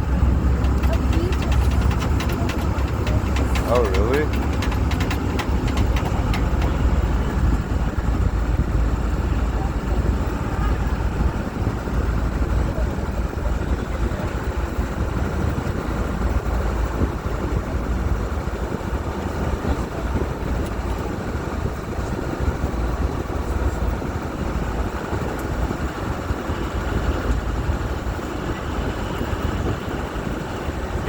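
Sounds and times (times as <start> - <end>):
boat engine rumble: 0.0 - 31.0.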